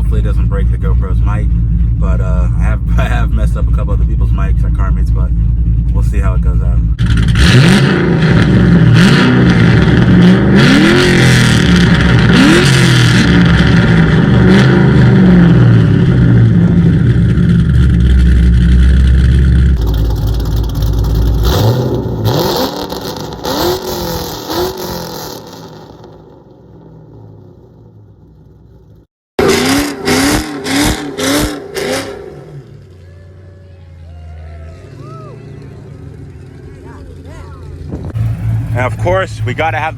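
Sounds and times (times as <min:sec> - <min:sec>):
car engine accelerating hard: 0:00.0 - 0:39.9
engine rev blips: 0:00.0 - 0:39.9.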